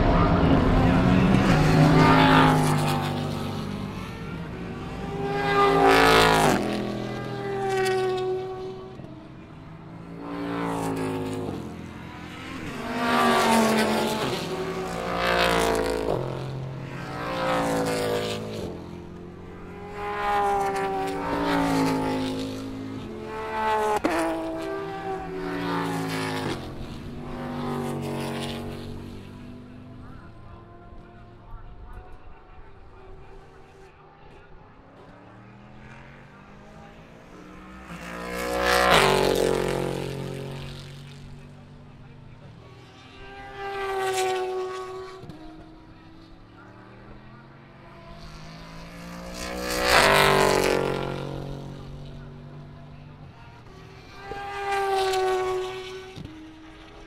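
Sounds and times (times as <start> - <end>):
race cars passing: 0.0 - 57.0.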